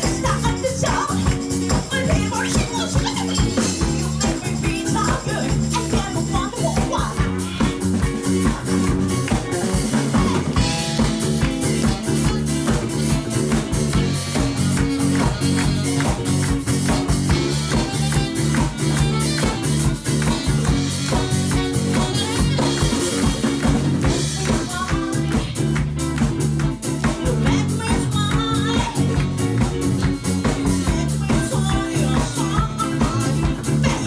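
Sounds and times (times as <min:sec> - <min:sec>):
drum kit beat: 0:00.0 - 0:34.0
live rock band playing: 0:00.0 - 0:34.0.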